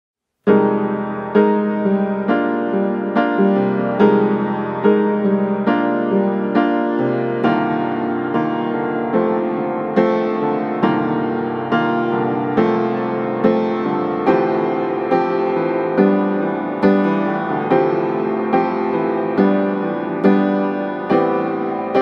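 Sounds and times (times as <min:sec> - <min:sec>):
slow gentle piano piece: 0:00.4 - 0:22.0.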